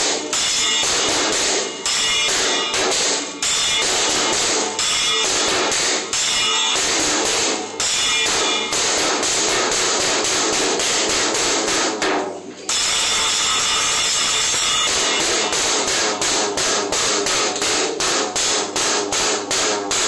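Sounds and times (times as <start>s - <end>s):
drum kit bashed rapidly: 0.0s - 20.0s.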